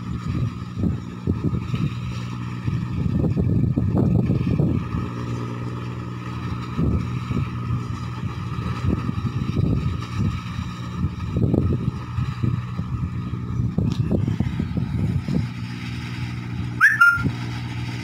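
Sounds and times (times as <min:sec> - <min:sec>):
harvester engine droning: 0:00.0 - 0:18.0.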